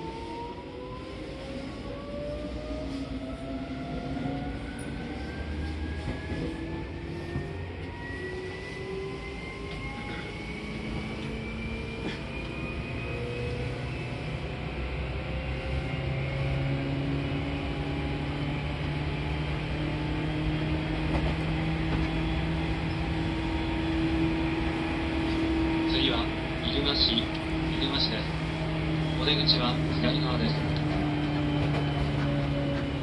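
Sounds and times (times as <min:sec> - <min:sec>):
train traction motor whine: 0:04.3 - 0:33.0
wheels rumbling on track: 0:04.4 - 0:33.0.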